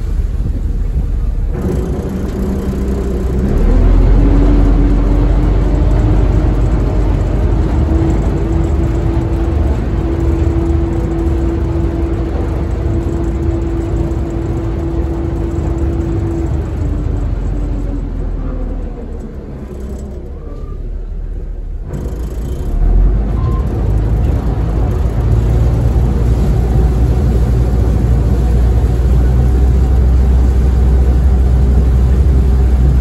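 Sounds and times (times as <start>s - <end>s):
ferry diesel engines rumbling: 0.0s - 33.0s.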